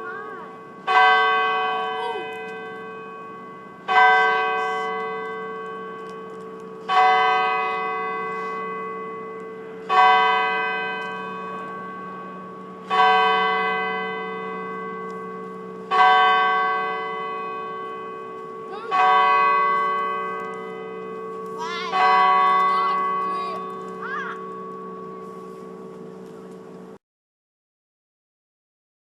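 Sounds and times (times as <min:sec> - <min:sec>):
clock tower bell striking: 0:00.0 - 0:27.0.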